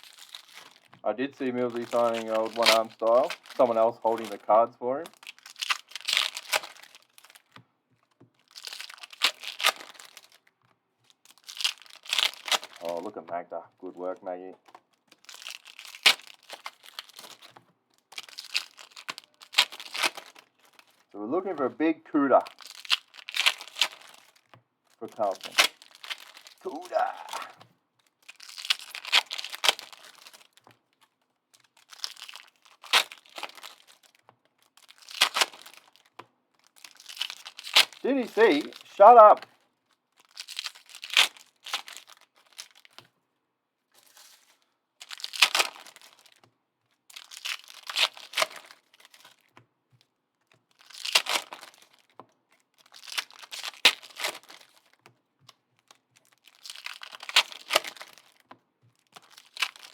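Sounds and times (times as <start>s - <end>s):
foil wrappers crinkling and tearing: 0.0s - 43.2s, 43.9s - 59.9s.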